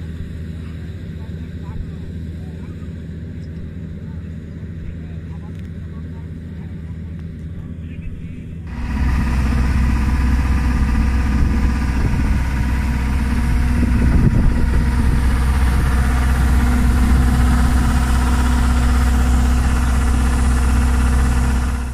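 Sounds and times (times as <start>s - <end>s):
combine harvester machinery drone: 0.0s - 21.9s.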